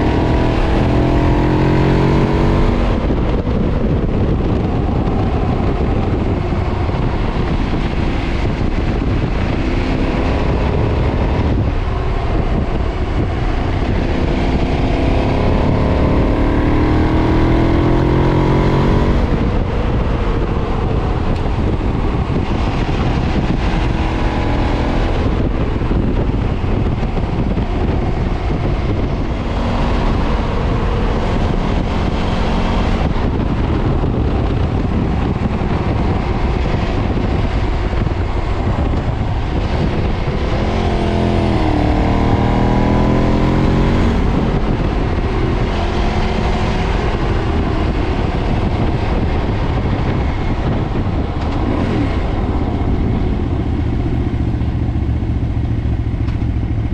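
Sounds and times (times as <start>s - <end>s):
motorcycle engine revving hard: 0.0s - 56.9s
wind rush: 0.0s - 56.9s.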